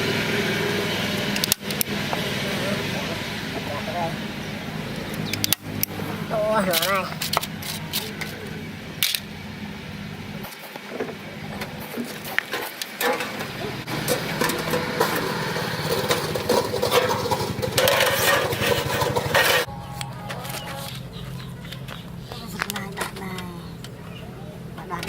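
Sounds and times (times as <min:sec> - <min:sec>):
small engine running: 0:00.0 - 0:12.4, 0:13.2 - 0:25.0.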